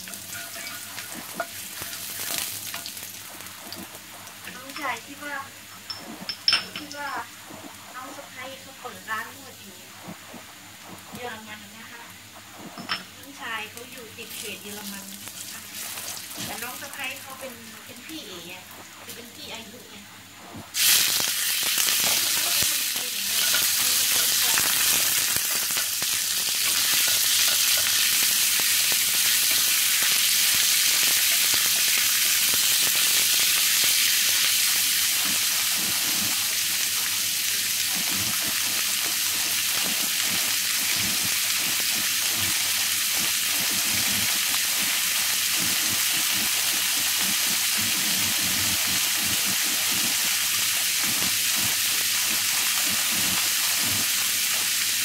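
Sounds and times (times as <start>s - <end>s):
meat sizzling in a pan: 0.0s - 55.0s.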